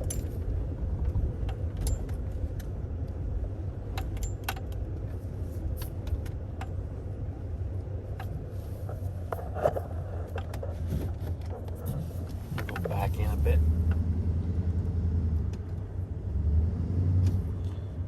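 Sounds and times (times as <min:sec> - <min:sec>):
vehicle engine low rumble: 0:00.0 - 0:18.0.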